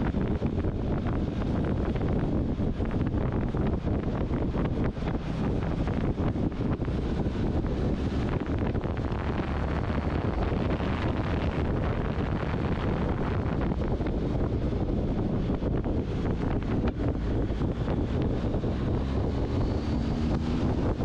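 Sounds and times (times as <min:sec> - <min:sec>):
motorcycle engine: 0:00.0 - 0:21.0
wind buffeting microphone: 0:00.0 - 0:21.0.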